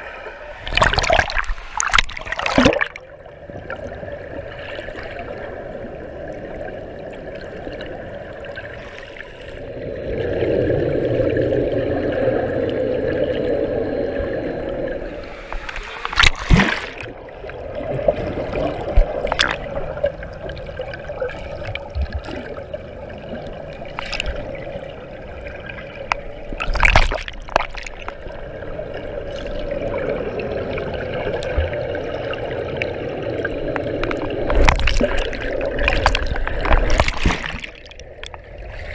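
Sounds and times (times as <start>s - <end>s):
muffled underwater rushing and bubbling: 0.0s - 38.9s.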